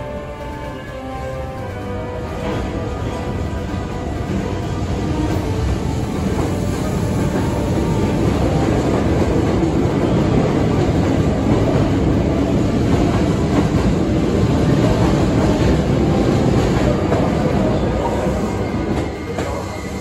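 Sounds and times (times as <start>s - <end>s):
train pulling out: 0.0s - 20.0s.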